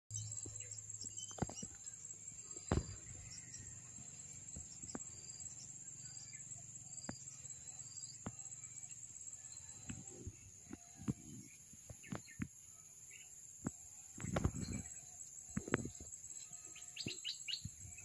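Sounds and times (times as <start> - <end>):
insects droning: 0.1 - 18.0.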